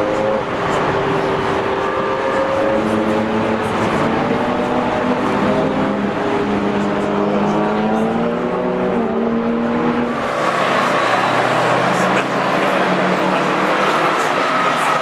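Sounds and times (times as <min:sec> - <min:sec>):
car engines driving past: 0:00.0 - 0:15.0.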